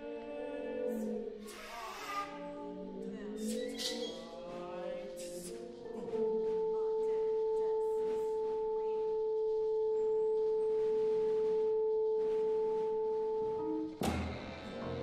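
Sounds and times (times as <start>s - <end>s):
soft scattered sounds: 0.0s - 15.0s.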